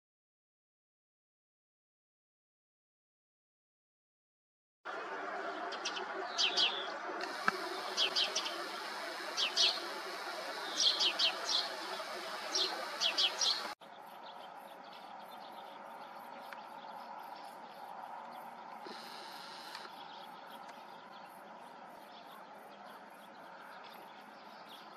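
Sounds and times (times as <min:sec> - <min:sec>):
outdoor background noise: 0:04.9 - 0:24.9
songbird chirping: 0:04.9 - 0:24.9.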